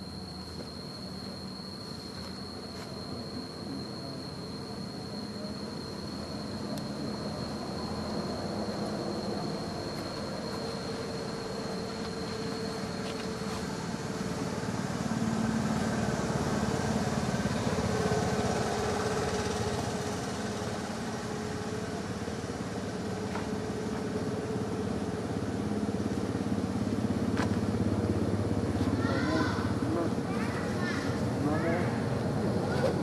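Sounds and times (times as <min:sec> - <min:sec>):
motor vehicle engine hum: 0:00.0 - 0:33.0.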